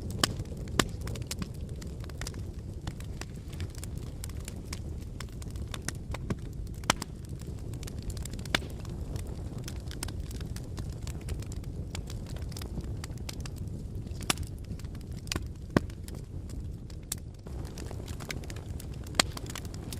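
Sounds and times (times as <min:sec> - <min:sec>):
fire crackling and popping: 0:00.0 - 0:19.9
low rumble of flames: 0:00.0 - 0:19.9.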